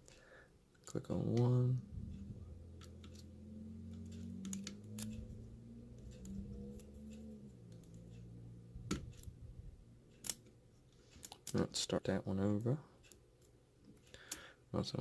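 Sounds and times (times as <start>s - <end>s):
faint low hum: 0.1s - 15.0s.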